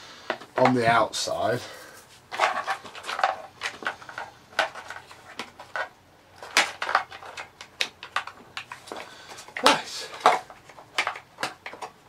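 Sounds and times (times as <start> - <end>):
hard plastic parts clicking: 2.3 - 12.0.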